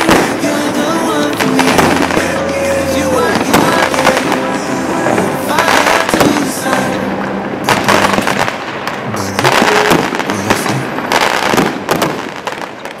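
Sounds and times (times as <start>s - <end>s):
background music: 0.0s - 11.4s
fireworks bursting and crackling: 0.0s - 13.0s.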